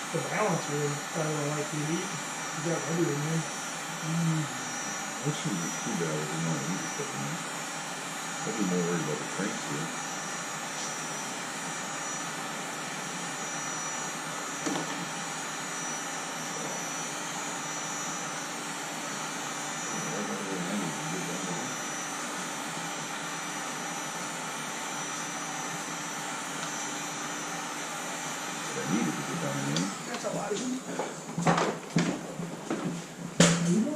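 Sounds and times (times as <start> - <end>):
torch flame hissing: 0.0 - 31.4.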